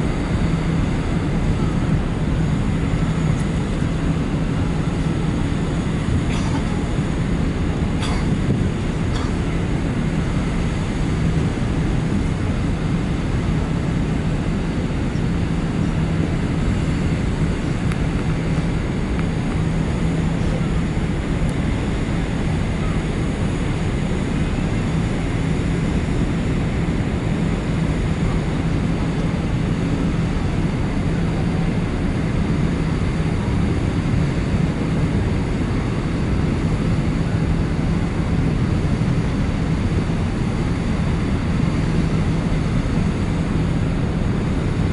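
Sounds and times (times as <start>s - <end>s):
ship engine drone: 0.0s - 44.9s.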